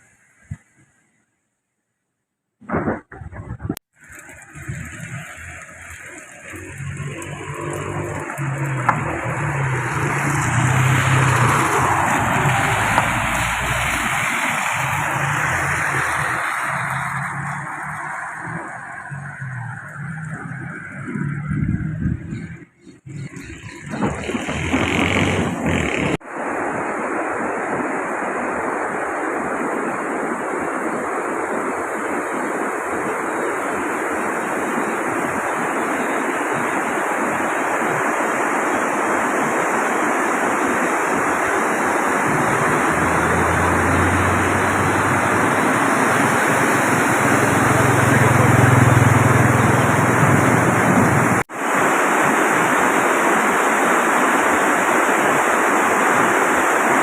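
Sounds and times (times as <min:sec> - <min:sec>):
fast-flowing water rushing: 0:04.0 - 0:21.0, 0:22.3 - 0:57.0.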